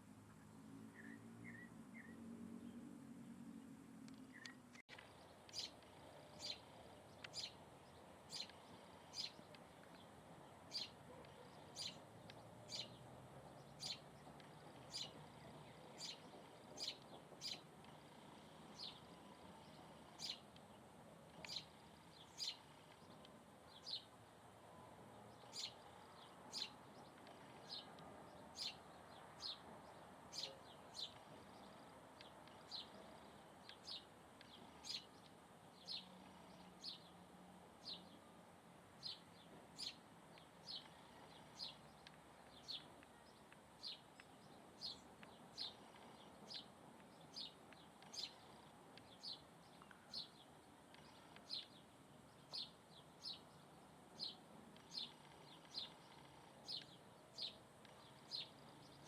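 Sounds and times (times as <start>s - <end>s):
faint steady hiss: 0.0s - 59.0s
bird chirping: 0.3s - 38.4s, 39.0s - 59.0s.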